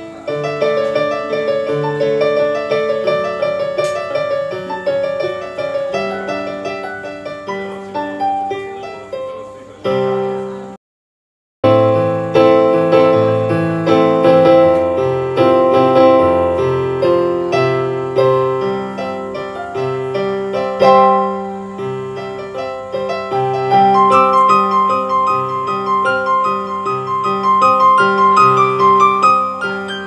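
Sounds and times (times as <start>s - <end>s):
solo piano music: 0.0s - 10.8s, 11.6s - 30.0s.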